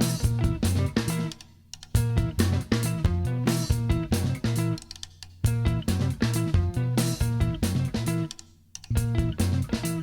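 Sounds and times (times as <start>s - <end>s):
upbeat guitar bass and drums music: 0.0s - 10.0s.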